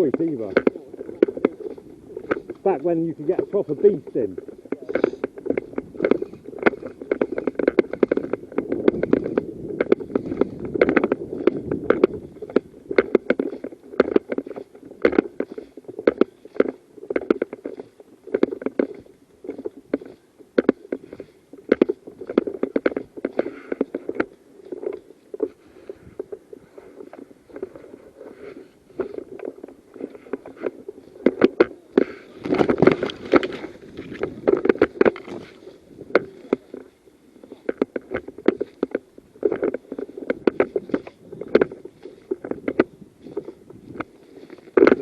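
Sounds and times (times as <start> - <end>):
clothing and kit rustling: 0.0 - 45.0
sharp clicks and knocks: 0.0 - 45.0.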